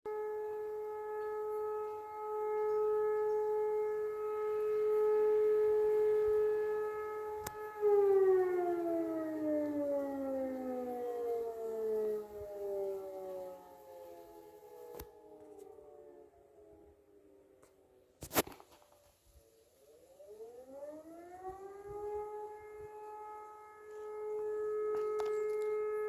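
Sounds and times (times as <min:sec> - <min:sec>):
civil defence siren winding down: 0:00.1 - 0:18.1, 0:19.8 - 0:26.0.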